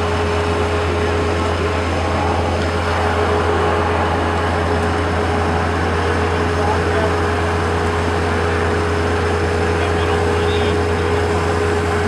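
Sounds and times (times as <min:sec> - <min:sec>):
machine engine running: 0:00.0 - 0:12.0
thin continuous whine: 0:00.0 - 0:12.0.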